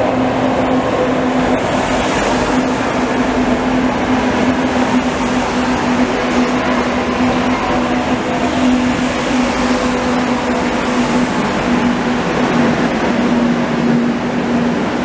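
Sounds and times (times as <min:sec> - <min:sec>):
steady hum: 0:00.0 - 0:15.0
train wheels rumbling on rails: 0:00.0 - 0:15.0.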